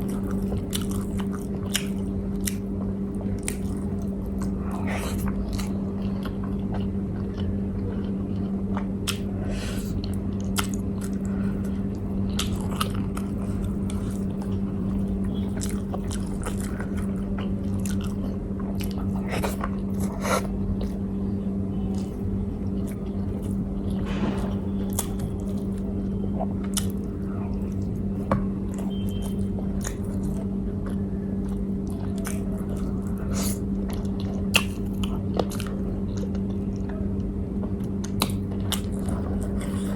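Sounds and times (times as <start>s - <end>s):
person chewing food: 0.0s - 21.0s, 21.9s - 37.0s, 37.6s - 39.9s
steady low hum: 0.0s - 39.9s.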